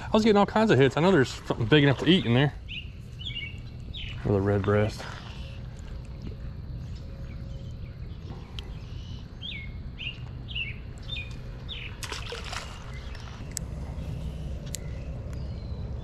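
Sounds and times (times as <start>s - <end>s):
low outdoor rush: 0.0s - 16.0s.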